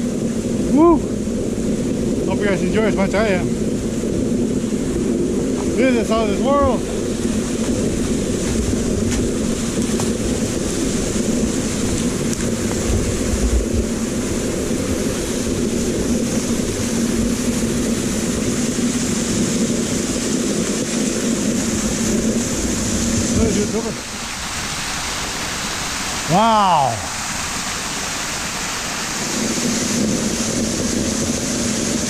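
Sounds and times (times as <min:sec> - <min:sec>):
wind rumble on microphone: 0:00.0 - 0:32.0
waterfall rushing: 0:04.6 - 0:32.0.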